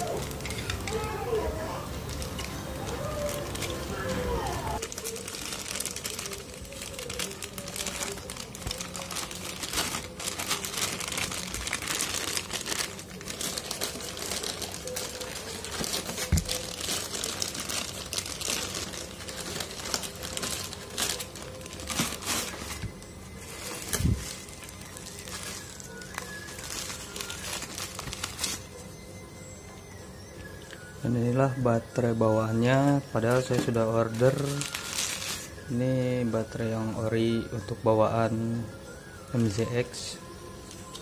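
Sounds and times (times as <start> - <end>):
plastic wrapping crinkling: 0.0 - 29.0, 31.9 - 37.7.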